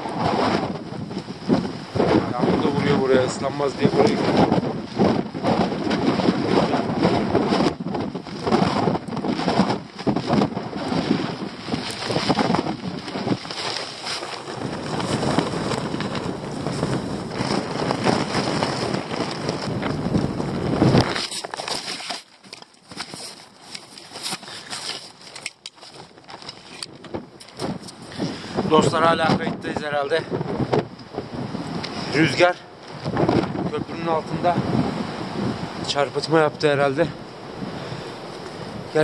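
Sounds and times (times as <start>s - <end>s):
tent flapping and rattling: 0.0s - 34.8s
wind gusting against microphone: 0.0s - 39.0s.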